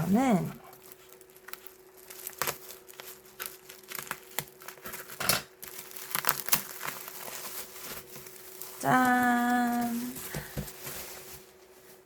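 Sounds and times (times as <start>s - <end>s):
packaging crinkling and rustling: 0.1s - 12.0s.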